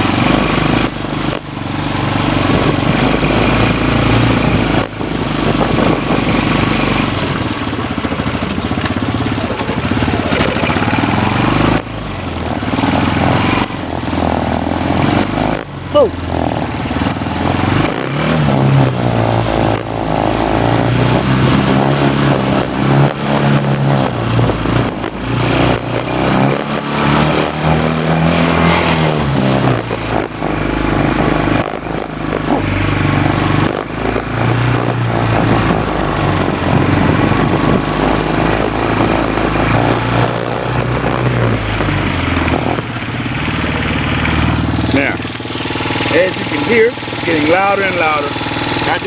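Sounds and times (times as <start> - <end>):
engine tapping knock: 0.0 - 28.2, 28.9 - 49.0
atv engine revving: 0.0 - 49.0.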